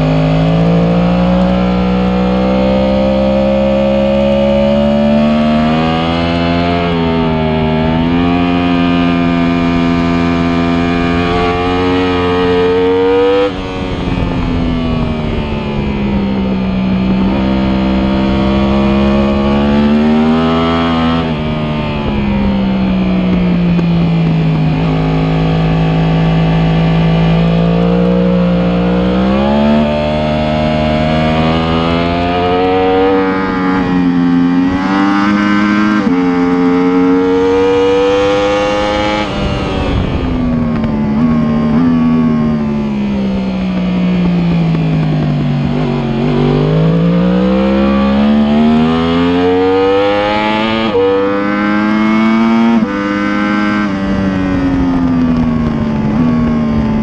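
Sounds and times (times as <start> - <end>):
motorcycle engine at full throttle: 0.0 - 57.0.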